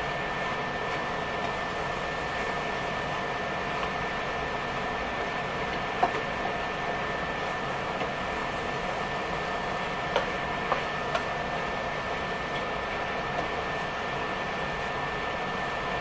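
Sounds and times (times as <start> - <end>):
burner fan whirring: 0.0 - 16.0.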